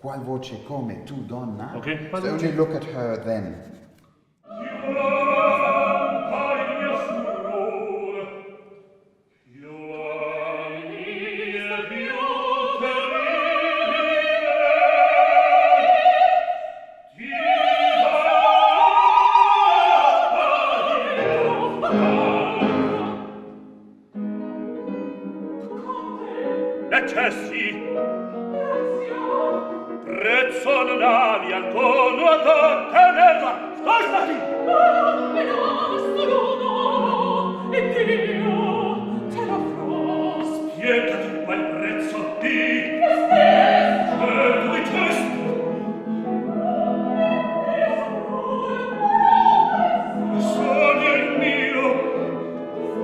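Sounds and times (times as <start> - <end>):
operatic singing: 4.4 - 53.0.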